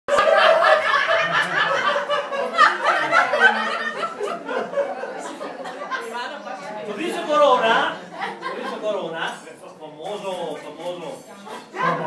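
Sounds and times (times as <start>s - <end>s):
people laughing and chattering: 0.1s - 12.0s.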